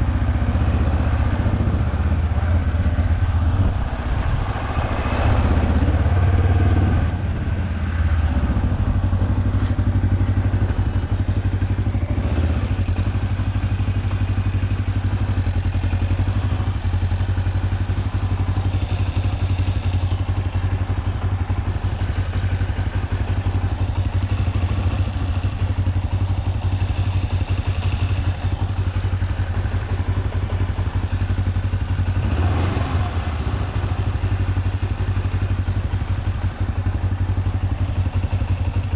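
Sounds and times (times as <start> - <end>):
motorcycle engine at low speed: 0.0 - 38.9.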